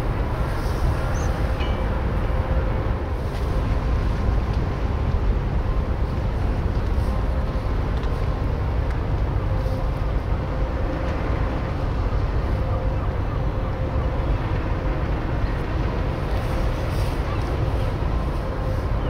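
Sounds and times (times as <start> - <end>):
ferry engines low rumble: 0.0 - 19.0.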